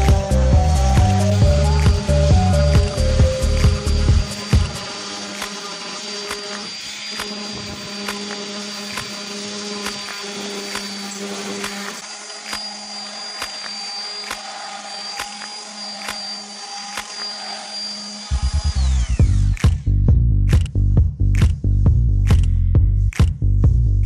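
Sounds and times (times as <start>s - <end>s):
orbital sander whine: 0.0s - 20.1s.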